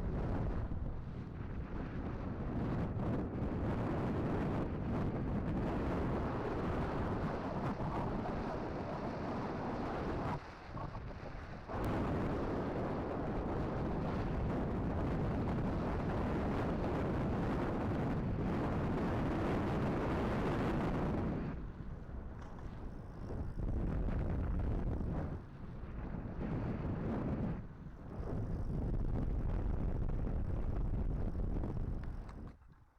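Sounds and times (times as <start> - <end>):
wind rushing over microphone: 0.0 - 32.6.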